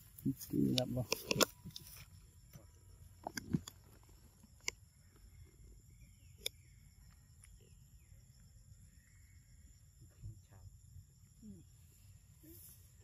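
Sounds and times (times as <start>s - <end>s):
faint chirping calls: 0.0s - 13.0s.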